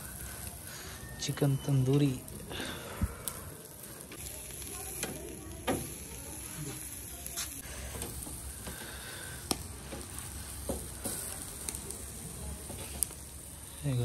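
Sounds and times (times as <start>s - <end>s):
chicken sizzling on a grill: 0.0s - 14.0s.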